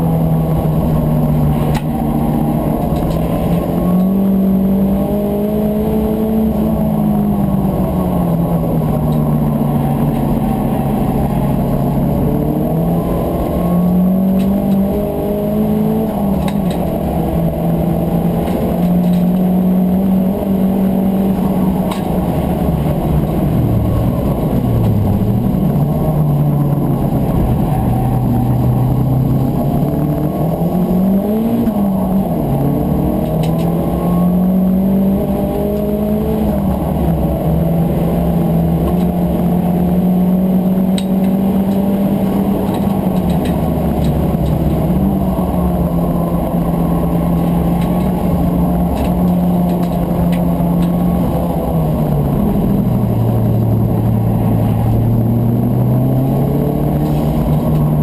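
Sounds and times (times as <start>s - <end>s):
race car engine revving: 0.0s - 58.0s
road and wind rumble: 0.0s - 58.0s.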